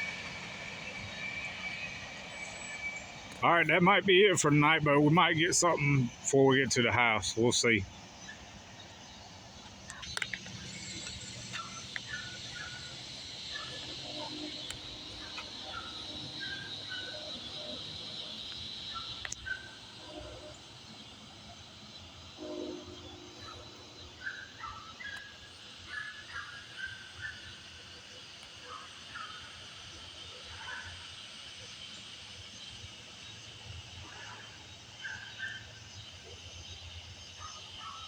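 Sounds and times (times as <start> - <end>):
high-pitched insect drone: 0.0 - 34.9
insect chirps: 0.0 - 38.0.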